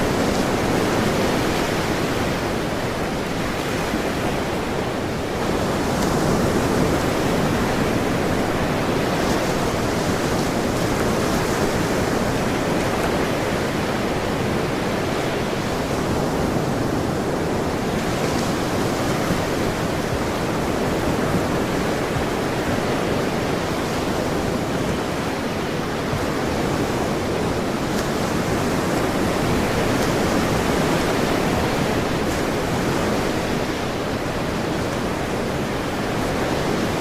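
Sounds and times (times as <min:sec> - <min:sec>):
ocean surf washing on shore: 0:00.0 - 0:37.0.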